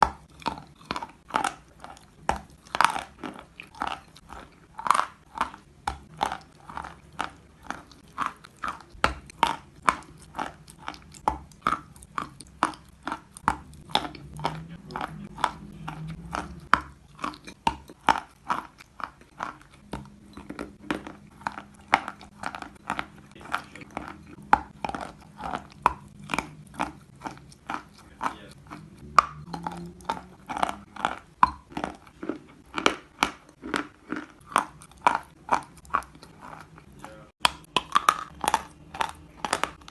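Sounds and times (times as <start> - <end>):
chewing dry crunches: 0.0 - 39.9.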